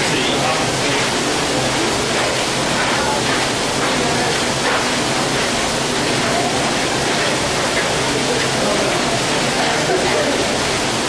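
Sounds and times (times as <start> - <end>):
loud steady rushing noise: 0.0 - 11.0.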